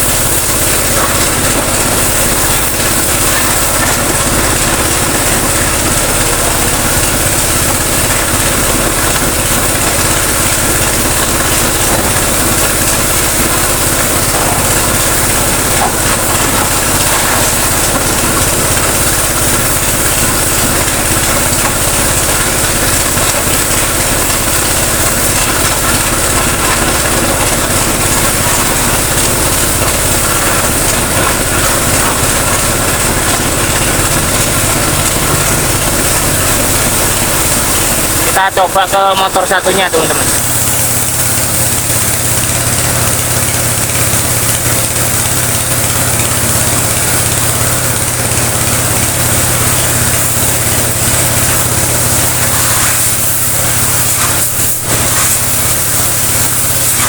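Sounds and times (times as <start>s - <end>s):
hissing water jet: 0.0s - 57.0s
pressure washer pump rumbling: 0.0s - 57.0s.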